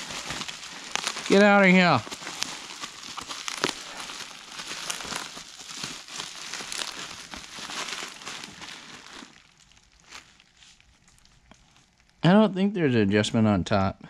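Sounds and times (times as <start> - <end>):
bubble wrap crinkling: 0.0 - 12.3.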